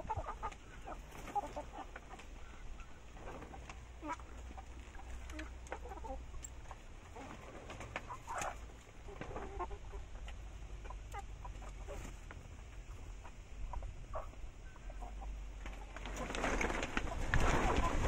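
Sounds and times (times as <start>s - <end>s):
chicken calls: 0.0s - 18.0s
chickens clucking: 0.0s - 18.0s.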